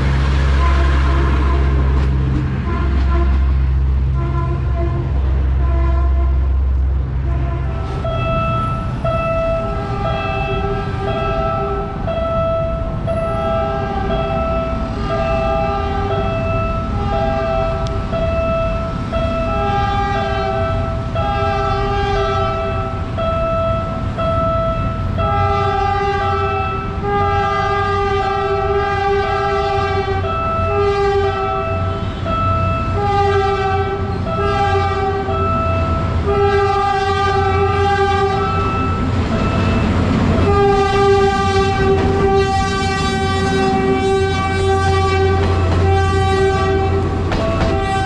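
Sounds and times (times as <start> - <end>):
locomotive engine rumble: 0.0 - 48.0
train wheel noise: 0.0 - 48.0
locomotive horn blasts: 0.4 - 6.6, 7.2 - 12.2, 13.1 - 18.5, 19.2 - 23.2, 24.9 - 48.0.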